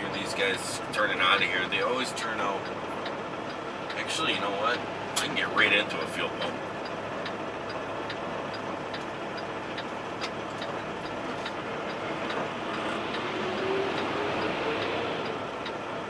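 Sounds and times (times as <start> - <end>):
truck cab running noise: 0.0 - 16.0
turn-signal flasher ticking: 0.0 - 16.0.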